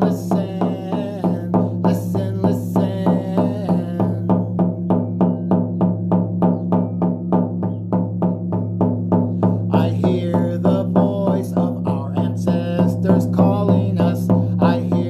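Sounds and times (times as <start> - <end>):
hand drum beating fast rhythm: 0.0 - 15.0.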